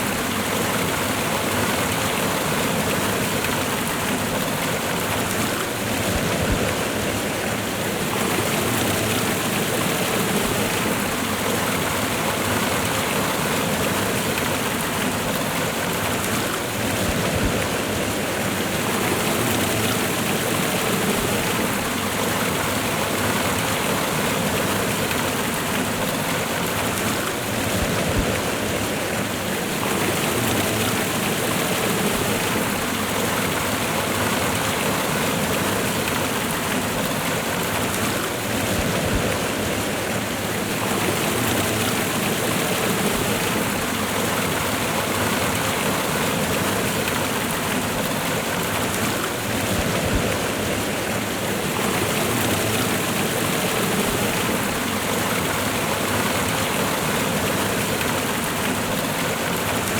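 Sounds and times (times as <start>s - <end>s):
river current: 0.0s - 59.9s
waterfall rushing: 0.0s - 59.9s.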